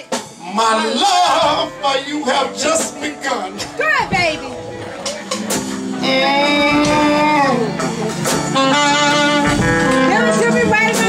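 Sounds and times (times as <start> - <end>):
low band accompaniment: 0.0 - 11.0
saxophones holding notes: 1.0 - 11.0.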